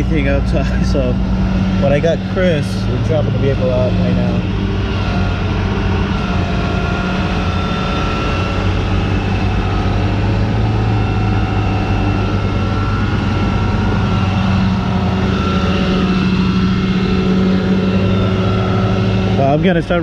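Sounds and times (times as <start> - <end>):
tow truck engine droning: 0.0 - 20.0.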